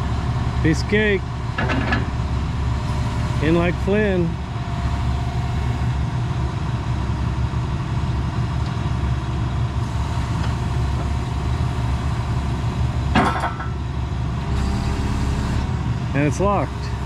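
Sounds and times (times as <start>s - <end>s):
excavator diesel engine idling: 0.0s - 17.0s.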